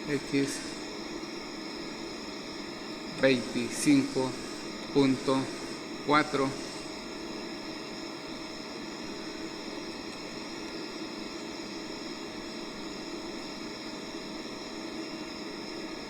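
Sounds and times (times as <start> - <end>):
faint steady whine: 0.0 - 16.0
lathe machine hum and hiss: 0.0 - 16.0.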